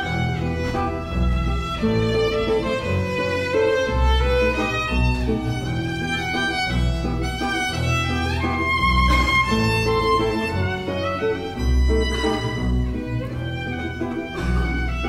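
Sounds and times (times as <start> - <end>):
low bass notes: 0.0 - 15.0
violin melody: 0.0 - 15.0.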